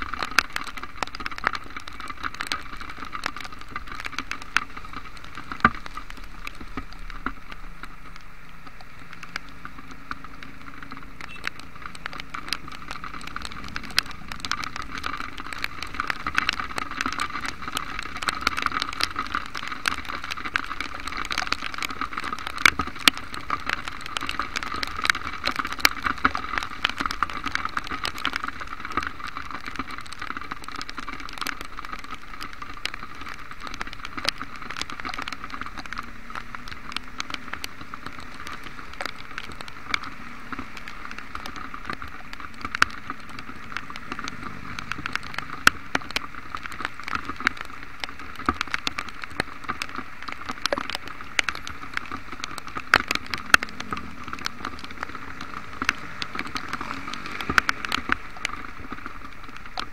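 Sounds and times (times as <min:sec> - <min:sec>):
hiss of rain and wet road: 0:00.0 - 0:59.9
raindrops tapping on camera: 0:00.0 - 0:59.9.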